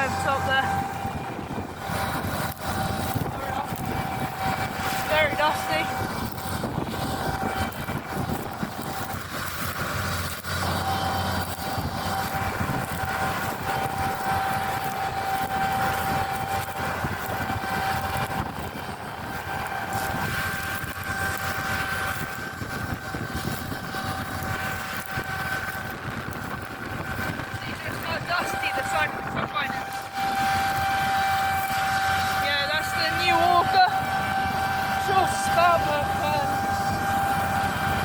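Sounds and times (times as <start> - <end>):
combine harvester rumble: 0.0 - 38.0
constant high whine: 0.0 - 38.0.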